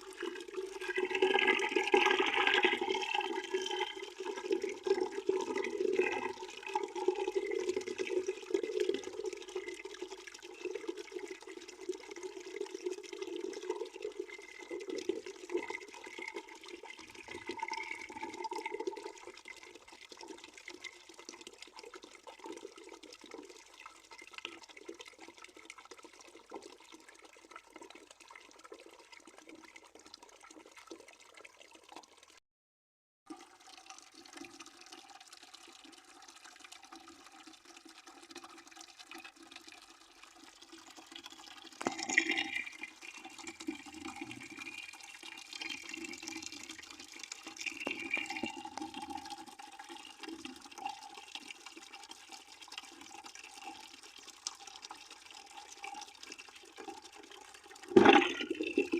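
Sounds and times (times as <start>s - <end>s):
water splashing into a bucket: 0.0s - 32.4s, 33.3s - 58.9s.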